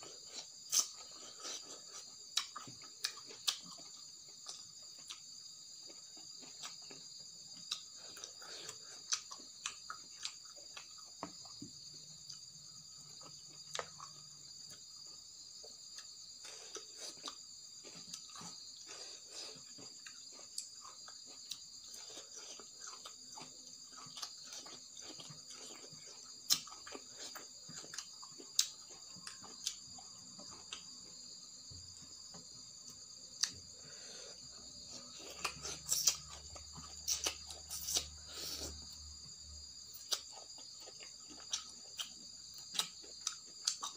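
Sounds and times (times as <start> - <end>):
chewing crunches: 0.0 - 15.0, 15.6 - 31.6, 32.2 - 43.9
crickets trilling: 0.0 - 43.9.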